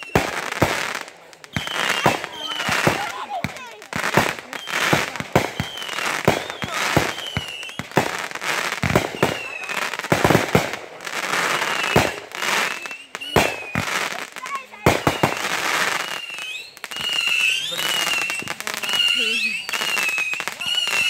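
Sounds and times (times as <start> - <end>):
firework crackling: 0.0 - 21.0
firework whistles: 0.0 - 21.0.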